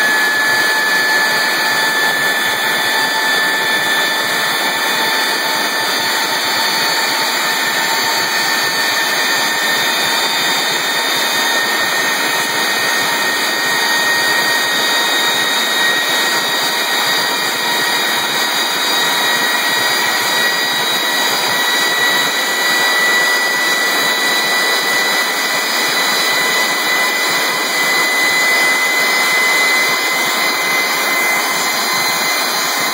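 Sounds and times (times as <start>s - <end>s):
jet engine running: 0.0s - 32.9s.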